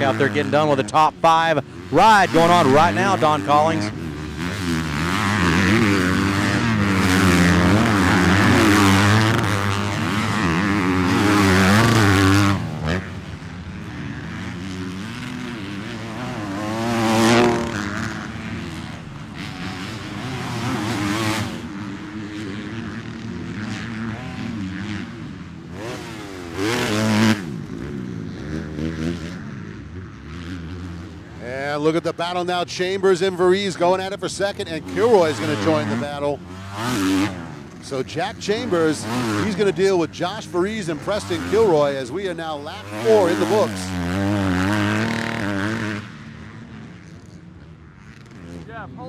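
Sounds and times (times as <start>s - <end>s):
motocross bike engines revving: 0.0s - 49.0s.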